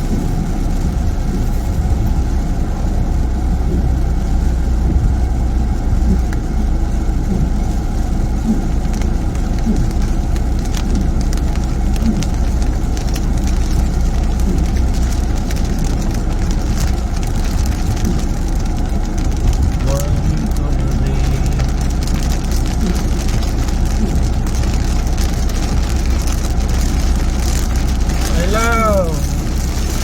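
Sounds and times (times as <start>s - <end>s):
car engine and tyre rumble: 0.0s - 30.0s
rain on car body: 0.0s - 30.0s.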